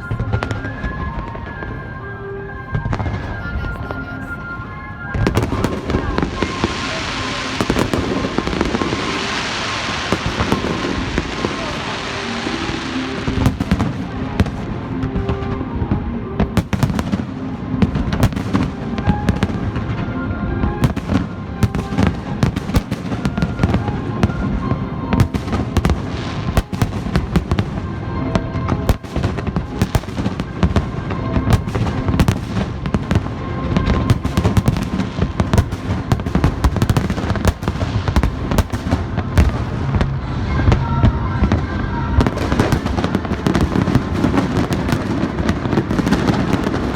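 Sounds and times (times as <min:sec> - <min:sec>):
fireworks bangs and crackles: 0:00.0 - 0:46.9
music playing: 0:00.0 - 0:46.9.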